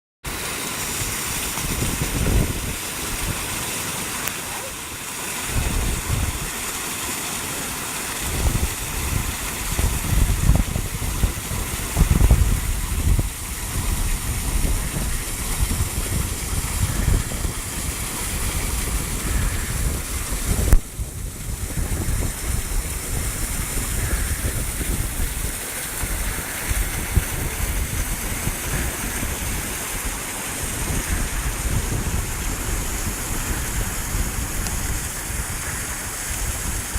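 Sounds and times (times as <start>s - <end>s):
waterfall rushing: 0.3s - 36.9s
wind rumbling on microphone: 0.8s - 6.7s, 8.2s - 36.9s.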